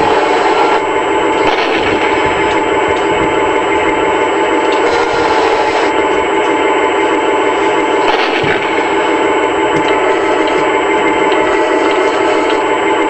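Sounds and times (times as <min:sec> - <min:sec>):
tinny diesel engine sound from speaker: 0:00.0 - 0:13.0.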